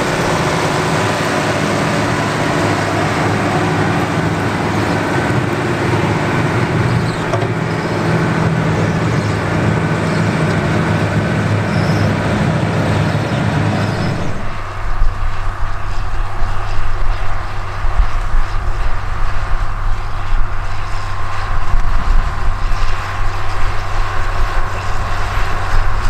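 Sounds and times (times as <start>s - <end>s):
tractor diesel engine under load: 0.0s - 26.0s
tractor low uneven rumble: 0.0s - 26.0s.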